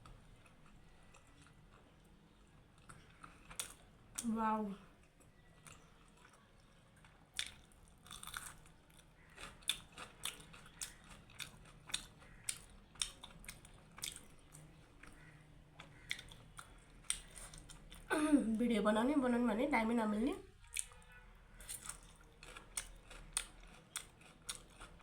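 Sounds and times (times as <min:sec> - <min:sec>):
chewing food: 0:00.0 - 0:18.1, 0:20.5 - 0:25.0.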